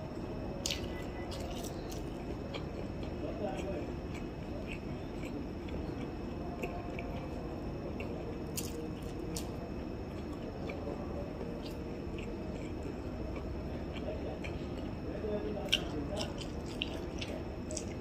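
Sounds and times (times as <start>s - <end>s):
steady background hum: 0.0s - 18.0s
person chewing corn: 0.6s - 18.0s.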